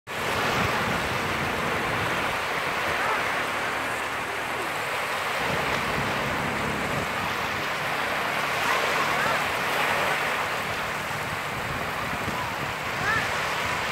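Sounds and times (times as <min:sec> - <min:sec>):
small waves breaking on sand: 0:00.1 - 0:13.9.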